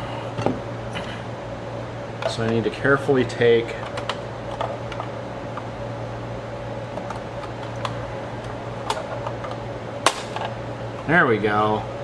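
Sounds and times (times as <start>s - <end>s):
fan-like hum: 0.0s - 12.0s.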